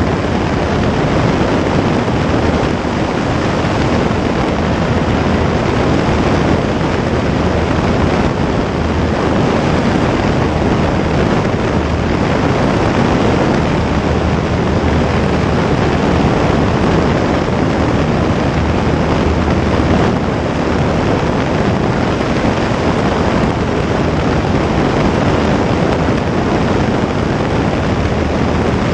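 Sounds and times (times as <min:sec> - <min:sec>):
light aircraft engine and propeller: 0:00.0 - 0:28.9
wind rushing on microphone: 0:00.0 - 0:28.9.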